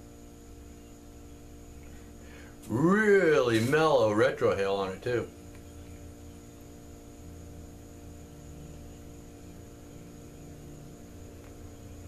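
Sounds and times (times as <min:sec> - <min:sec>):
faint thin high whine: 0:00.0 - 0:12.0
steady low hum: 0:00.0 - 0:12.0.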